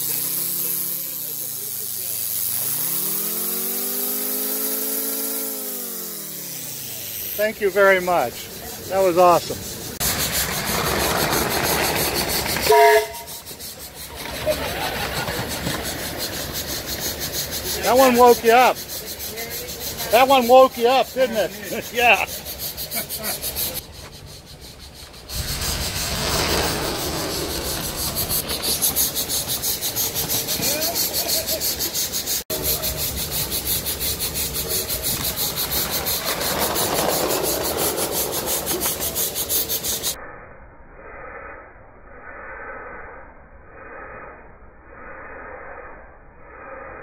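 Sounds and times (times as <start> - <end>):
model steam engine chuffing: 0.0 - 40.2.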